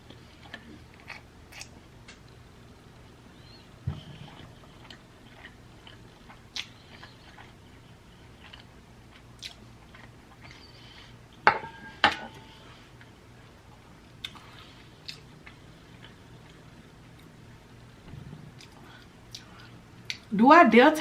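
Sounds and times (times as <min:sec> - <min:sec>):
person chewing food: 0:00.0 - 0:02.4, 0:03.4 - 0:11.4, 0:12.9 - 0:17.5, 0:18.5 - 0:20.3.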